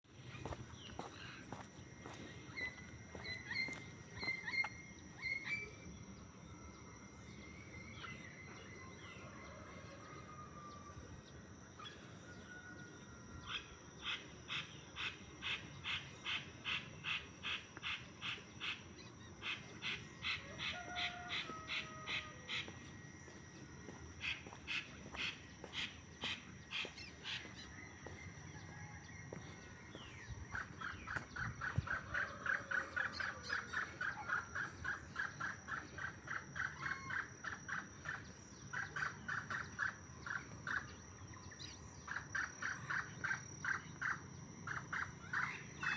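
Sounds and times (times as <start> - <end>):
steady high whine: 0.0 - 41.4.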